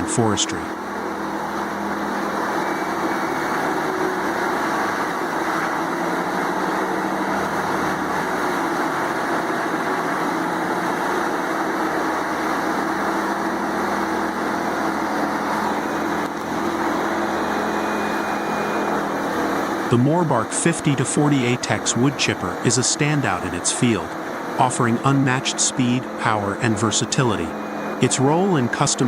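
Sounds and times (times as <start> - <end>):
wood chipper running: 0.0 - 29.0.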